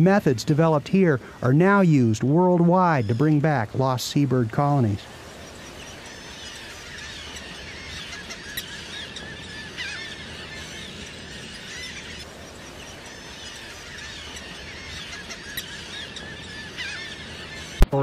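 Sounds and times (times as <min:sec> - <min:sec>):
steady background rush: 0:00.0 - 0:18.0
terns calling shrilly: 0:00.0 - 0:18.0.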